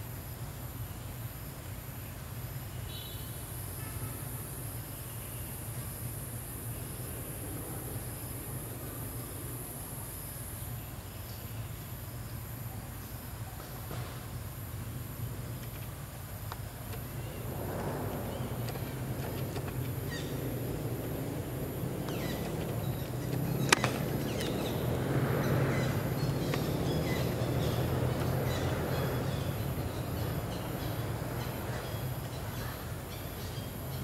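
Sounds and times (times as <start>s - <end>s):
low steady engine hum: 0.0s - 34.0s.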